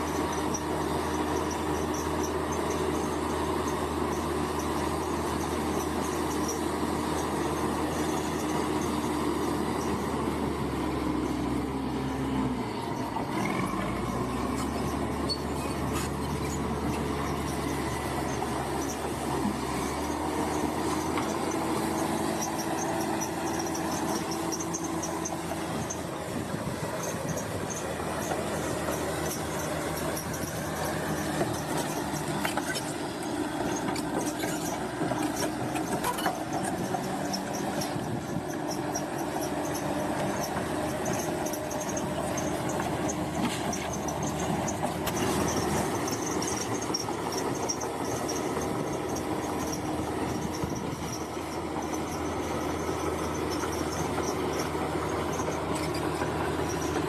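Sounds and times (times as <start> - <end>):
diesel engine under load: 0.0 - 57.0
steel tracks squealing and clanking: 0.0 - 57.0.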